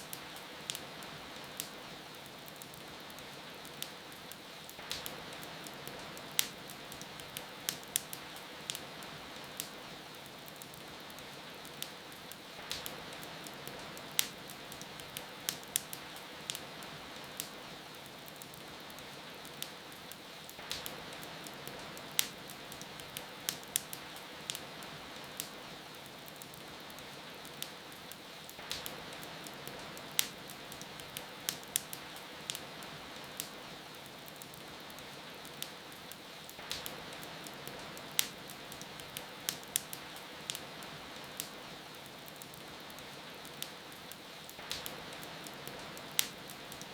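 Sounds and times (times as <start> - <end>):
fireplace fire crackling: 0.0 - 46.9.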